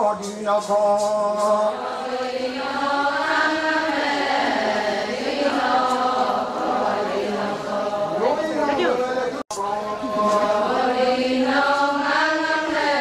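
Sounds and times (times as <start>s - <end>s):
group of voices chanting: 1.4s - 13.0s.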